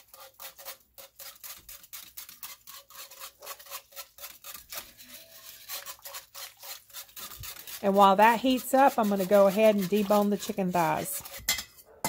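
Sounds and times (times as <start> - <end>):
whisk scraping a pot: 0.0 - 11.8.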